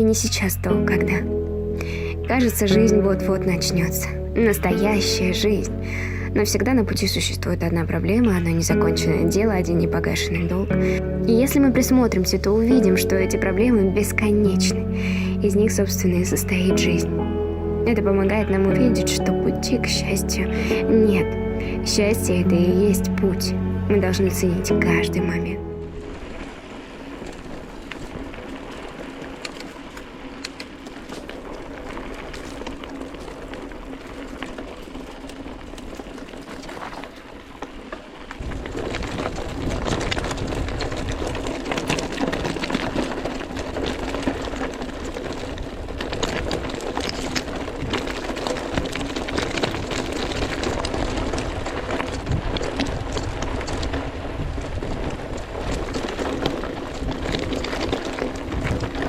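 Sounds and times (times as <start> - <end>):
bike tyres crunching on rocks: 0.0 - 59.0
wind noise: 0.0 - 59.0.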